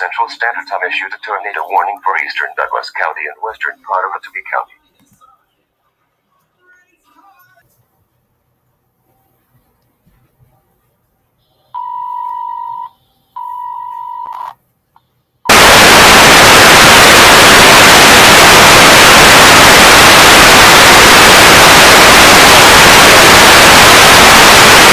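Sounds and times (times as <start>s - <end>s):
loud tv static hiss: 0.0s - 11.7s, 15.4s - 24.9s.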